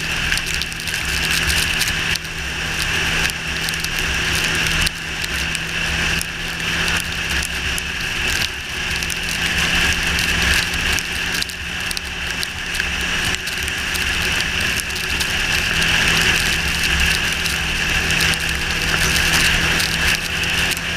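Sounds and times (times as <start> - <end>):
motorcycle engine running: 0.0 - 20.9
rain hissing and pattering: 0.0 - 20.9.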